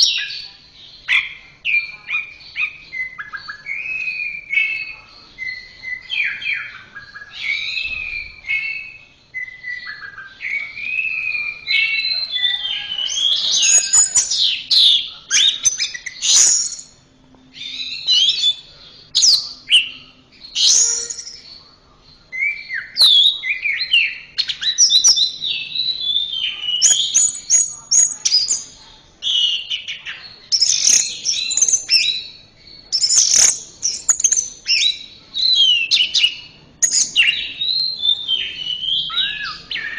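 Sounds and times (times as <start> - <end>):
thrush singing whistled song: 0.0 - 39.9.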